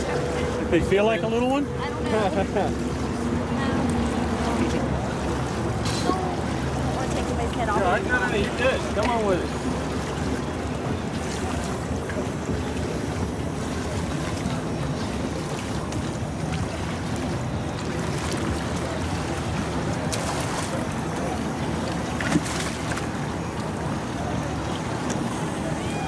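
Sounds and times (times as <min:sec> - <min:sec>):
water sloshing around boat: 0:00.0 - 0:26.0.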